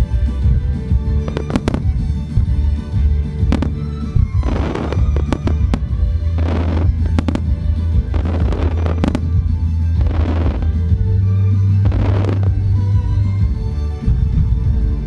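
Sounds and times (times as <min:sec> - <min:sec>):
fireworks bursting: 0:00.0 - 0:13.3
fireworks crackling: 0:00.0 - 0:13.4
violin-led music: 0:00.0 - 0:15.0.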